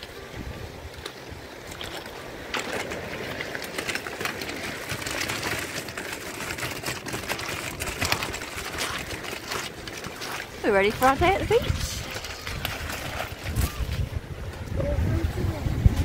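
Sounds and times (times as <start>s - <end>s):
wagon wheels rattling over pebbles: 0.8s - 16.0s.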